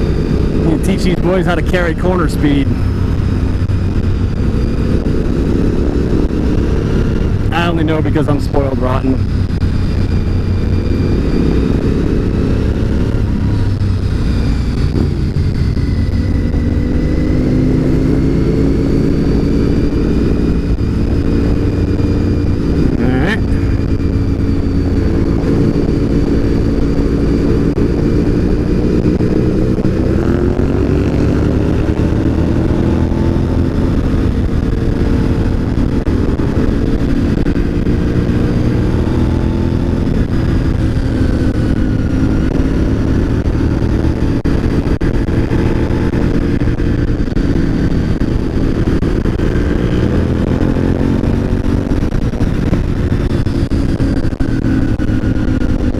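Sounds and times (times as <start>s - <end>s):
motorcycle engine revving: 0.0s - 55.9s
wind rush on microphone: 0.0s - 55.9s.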